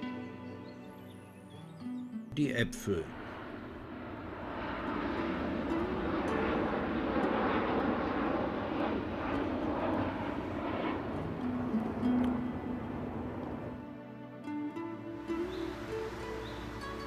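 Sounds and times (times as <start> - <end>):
jet airliner flying overhead: 2.5 - 17.0.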